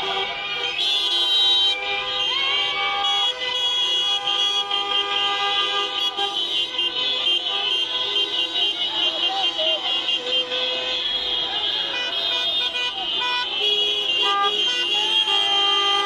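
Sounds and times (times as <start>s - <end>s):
many car horns honking: 0.0s - 16.0s.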